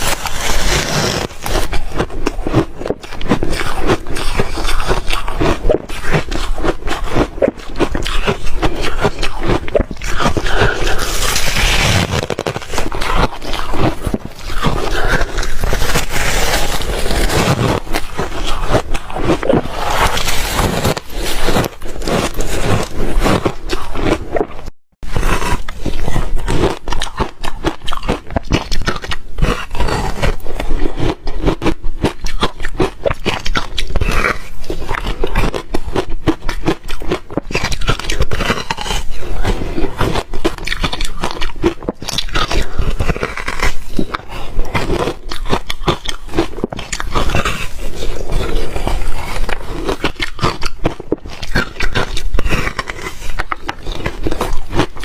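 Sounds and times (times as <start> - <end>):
crunching ice: 0.0 - 55.0.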